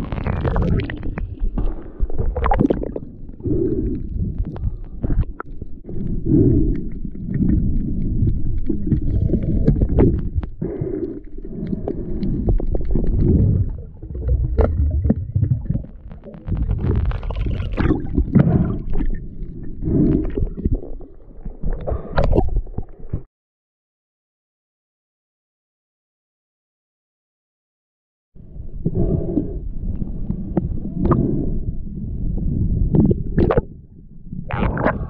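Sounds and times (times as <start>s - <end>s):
underwater rumble and sloshing: 0.0s - 23.3s, 28.4s - 35.0s.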